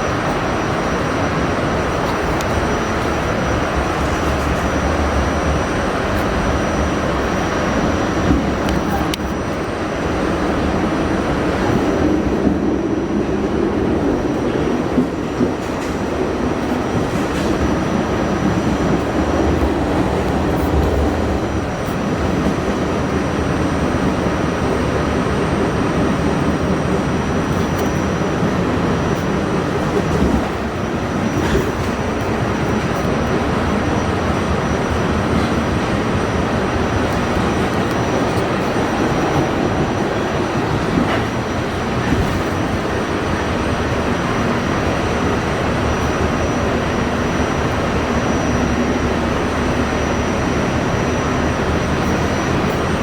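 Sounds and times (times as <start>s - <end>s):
faint high whine: 0.0s - 53.0s
subway car rumbling along track: 0.0s - 53.0s.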